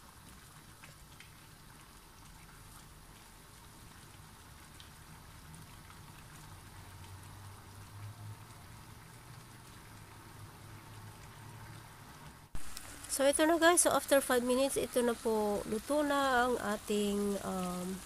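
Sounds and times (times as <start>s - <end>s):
sauce bubbling in a pan: 0.0s - 18.0s.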